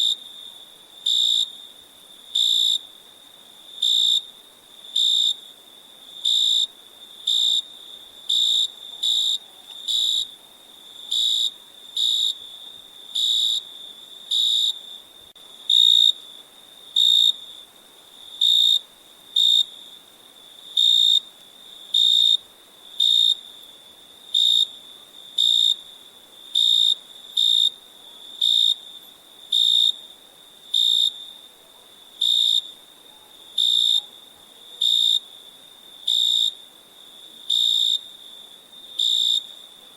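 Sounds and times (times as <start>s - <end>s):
cricket chirping: 0.0s - 39.9s
faint background hiss: 0.0s - 39.9s.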